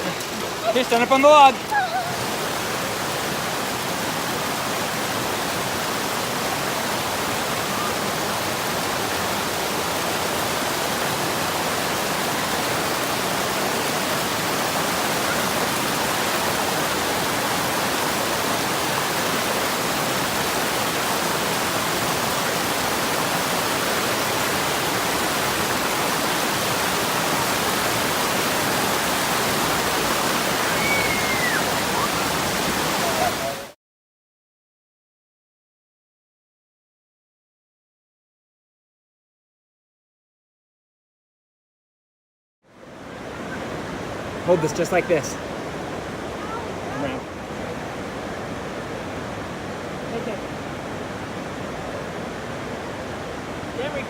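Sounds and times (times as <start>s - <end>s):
stream rushing over rocks: 0.0s - 33.8s, 42.7s - 54.0s.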